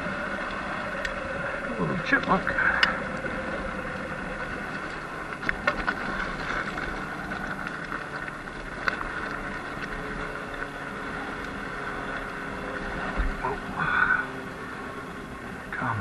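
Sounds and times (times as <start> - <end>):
electric motor and drivetrain whine: 0.0 - 16.0
tyres on gravel: 0.0 - 16.0.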